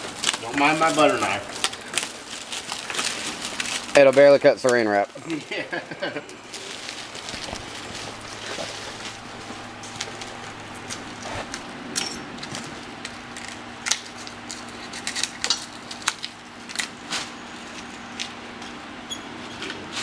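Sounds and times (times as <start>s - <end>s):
plastic wrap crackling: 0.0s - 11.7s, 12.4s - 18.4s.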